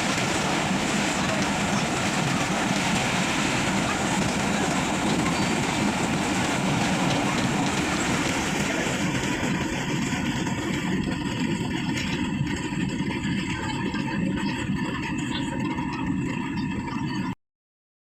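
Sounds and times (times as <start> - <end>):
train rumbling and rattling on rails: 0.0 - 17.4.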